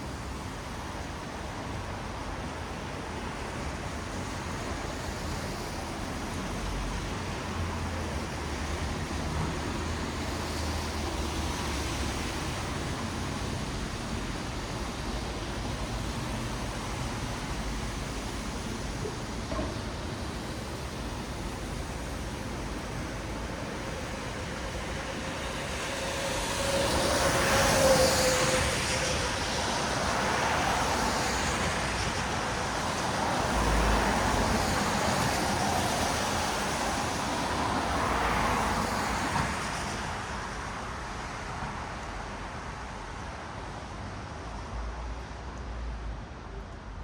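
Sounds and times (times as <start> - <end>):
tyres hissing on wet road: 0.0 - 46.4.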